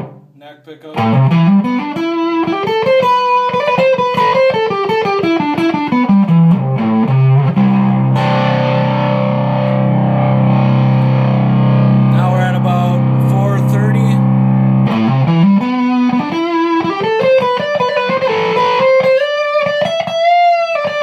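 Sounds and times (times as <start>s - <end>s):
fuzzy guitar chord ringing: 0.0s - 0.4s, 1.0s - 21.0s
fuzz electric guitar notes: 0.0s - 21.0s.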